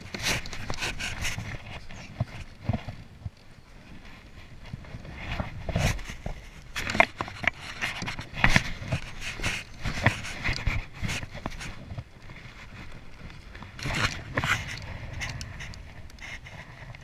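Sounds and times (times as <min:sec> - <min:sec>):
arm brushing against camera: 0:00.1 - 0:02.8, 0:04.6 - 0:13.0, 0:13.8 - 0:17.0.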